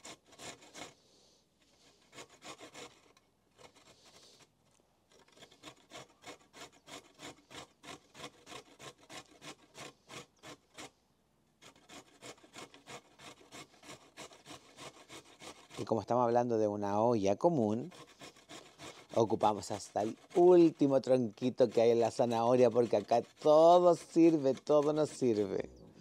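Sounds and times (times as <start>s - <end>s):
carrot grating on metal grater: 0.0s - 1.0s, 1.7s - 4.5s, 5.1s - 11.0s, 11.6s - 16.1s, 17.5s - 25.6s.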